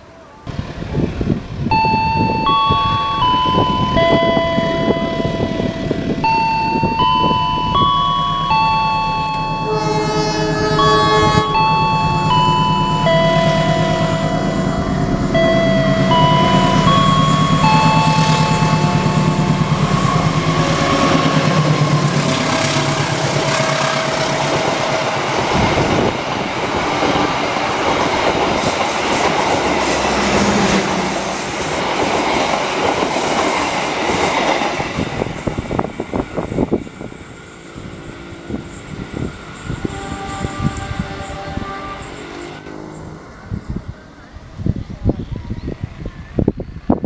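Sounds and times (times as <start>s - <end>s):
locomotive engine humming: 0.0s - 46.5s.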